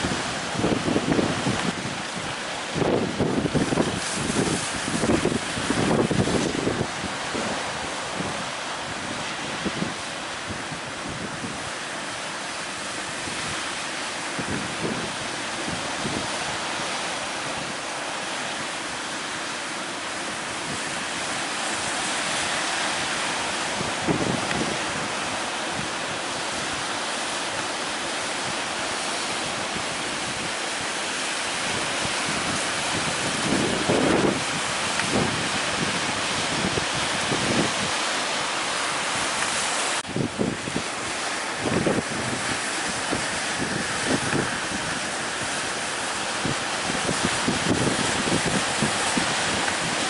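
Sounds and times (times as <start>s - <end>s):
ocean waves breaking: 0.0s - 50.0s
wind gusting on microphone: 0.0s - 50.0s.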